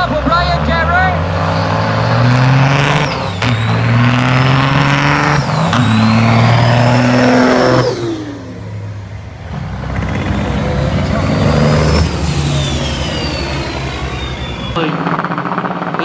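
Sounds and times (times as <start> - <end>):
diesel truck engines revving: 0.0 - 16.0.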